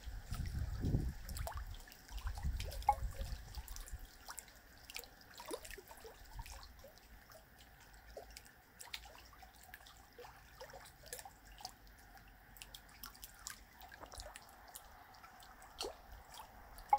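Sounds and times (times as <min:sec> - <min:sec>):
faint water dripping and trickling: 0:00.0 - 0:16.9.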